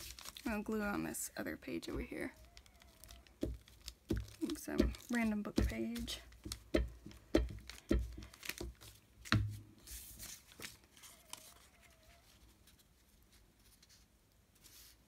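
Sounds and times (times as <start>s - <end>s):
paper rustling: 0.0s - 0.8s, 1.8s - 15.0s.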